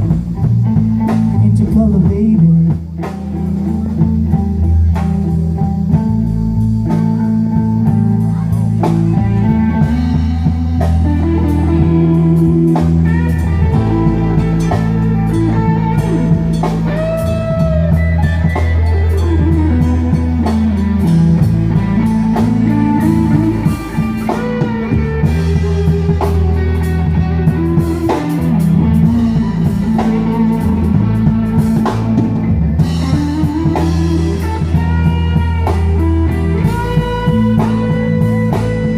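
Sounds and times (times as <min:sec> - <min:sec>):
bass and drums: 0:00.0 - 0:38.9
lead guitar solo: 0:00.0 - 0:38.9.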